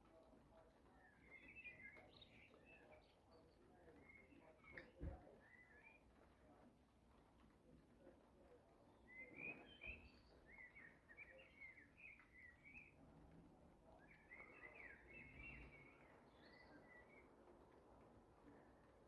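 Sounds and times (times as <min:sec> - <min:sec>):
songbird singing faintly: 0:00.0 - 0:06.8, 0:07.6 - 0:19.0.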